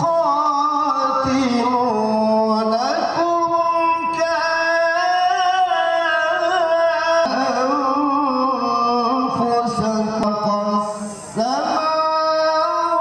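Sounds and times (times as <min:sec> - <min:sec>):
man chanting through speakers: 0:00.0 - 0:13.0.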